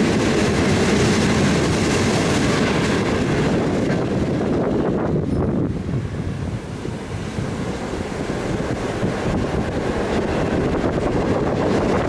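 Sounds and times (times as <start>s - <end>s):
train wheels on rails: 0.0s - 12.0s
wind buffeting microphone: 0.0s - 12.0s.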